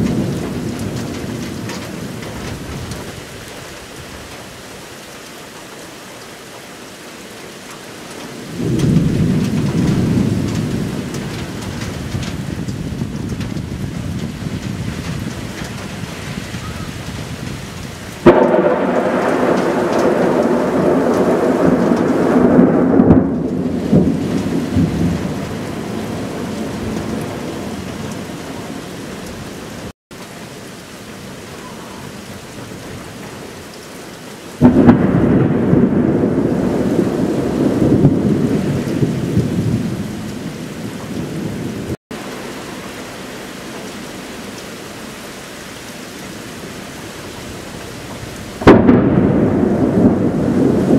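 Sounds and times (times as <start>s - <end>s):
thunder rumbling: 0.0s - 4.5s, 8.3s - 29.9s, 31.1s - 42.9s, 46.5s - 50.9s
steady rain: 0.0s - 50.9s.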